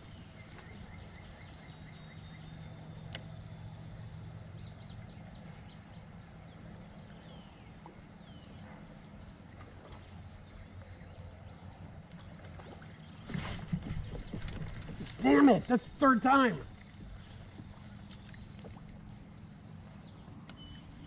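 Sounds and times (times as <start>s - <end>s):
birds chirping: 0.0s - 21.0s
low steady rumble: 0.0s - 21.0s.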